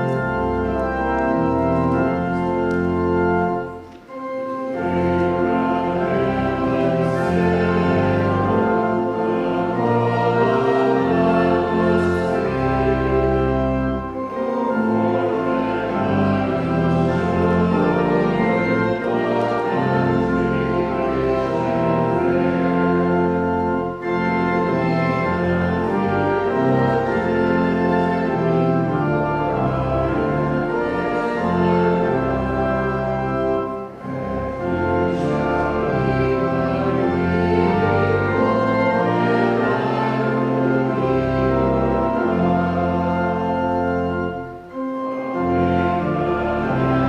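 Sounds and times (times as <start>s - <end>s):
church organ playing chords: 0.0s - 47.0s.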